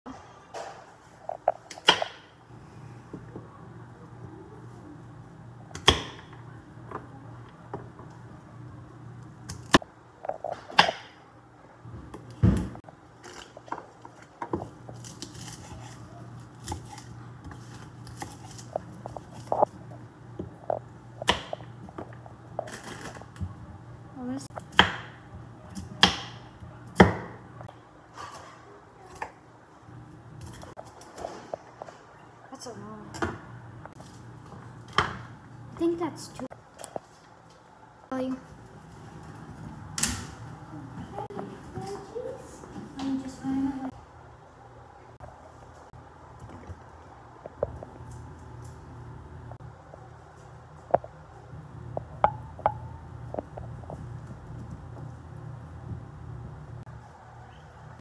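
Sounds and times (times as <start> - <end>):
low steady hum: 0.1 - 58.0.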